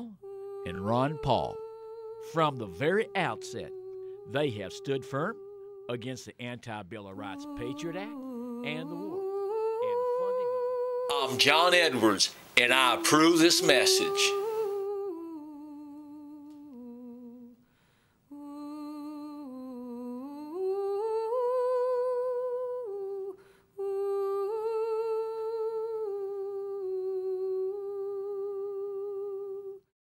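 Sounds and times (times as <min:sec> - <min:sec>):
person humming a slow tune: 0:00.0 - 0:11.4, 0:12.8 - 0:17.7, 0:18.3 - 0:29.9.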